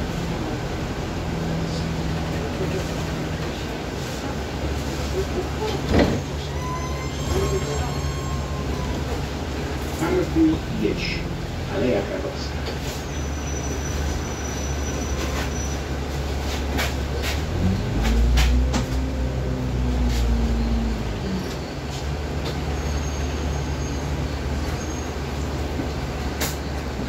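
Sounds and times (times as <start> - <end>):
bus diesel engine drone: 0.0 - 27.0.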